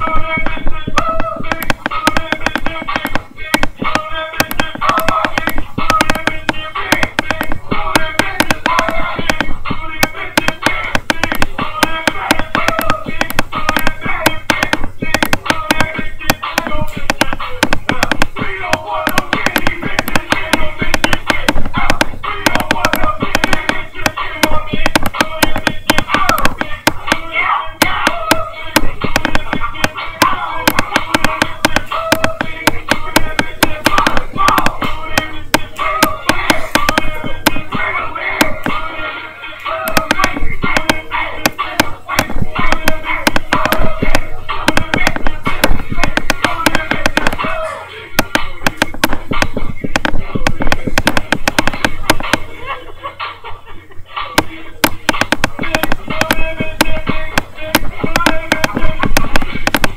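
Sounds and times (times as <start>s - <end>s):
microphone handling pops and knocks: 0.0s - 27.2s, 27.8s - 38.8s, 39.9s - 47.6s, 48.2s - 52.5s, 54.4s - 59.9s
dance music: 0.0s - 59.9s.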